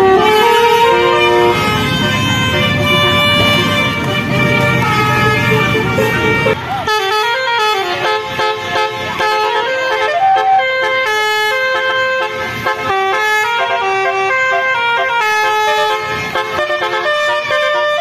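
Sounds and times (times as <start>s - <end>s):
musical vehicle horn melody: 0.0s - 18.0s.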